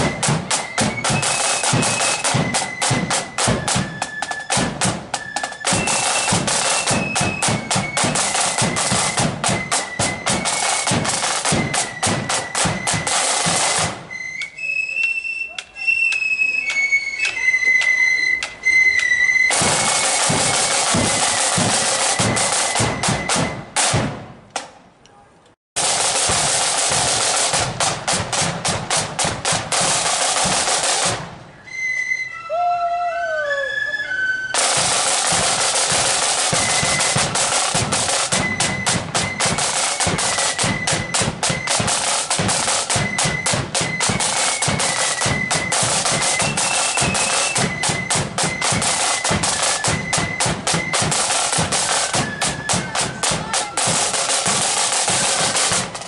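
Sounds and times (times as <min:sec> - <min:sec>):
snare drum rolls: 0:00.0 - 0:14.6, 0:19.0 - 0:24.8, 0:25.8 - 0:31.4, 0:34.6 - 0:56.0
high flutes: 0:00.0 - 0:23.8, 0:30.1 - 0:55.7.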